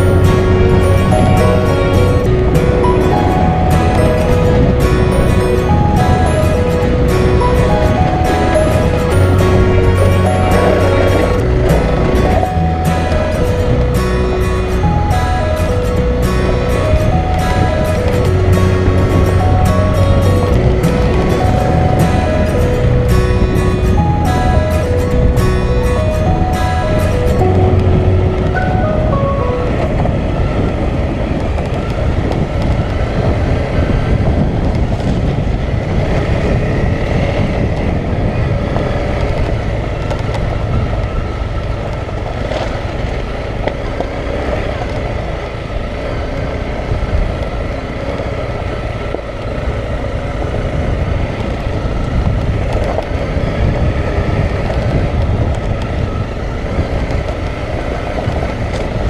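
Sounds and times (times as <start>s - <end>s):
motorcycle engine running at low speed: 0.0s - 59.0s.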